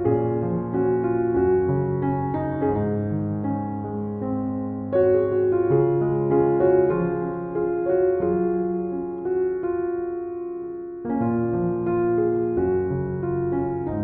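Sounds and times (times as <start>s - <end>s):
calm piano melody: 0.0s - 14.0s.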